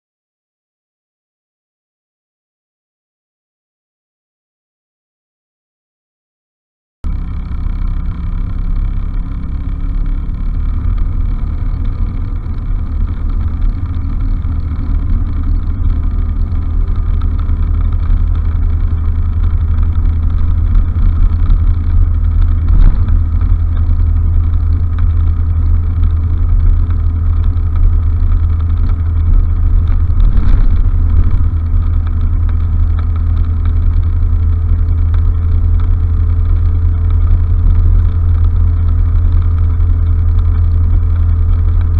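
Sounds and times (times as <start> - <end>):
heavy low rumble: 7.0 - 41.9
road noise: 7.0 - 41.9
scooter engine: 7.1 - 41.9.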